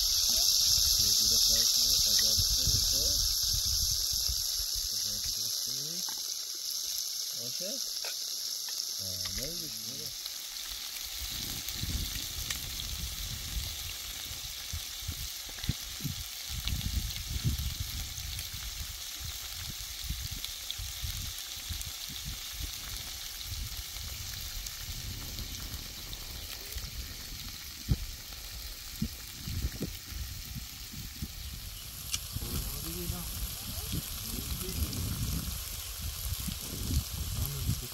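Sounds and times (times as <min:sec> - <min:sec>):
food sizzling in a pan: 0:00.0 - 0:37.9.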